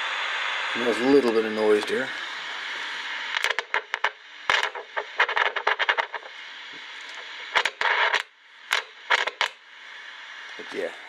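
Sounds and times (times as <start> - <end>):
radio receiver hiss: 0.0 - 11.0
radio crackling: 0.7 - 11.0.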